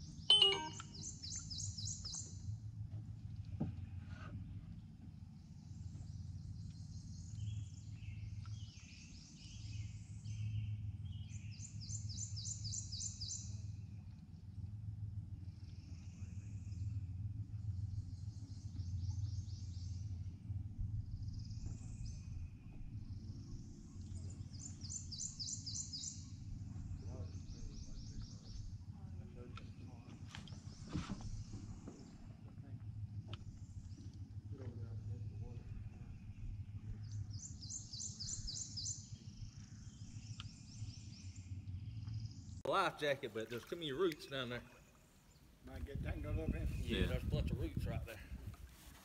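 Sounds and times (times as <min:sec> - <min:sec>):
songbirds singing: 0:00.0 - 0:02.6, 0:03.5 - 0:47.8
steady low hum: 0:00.0 - 0:43.4.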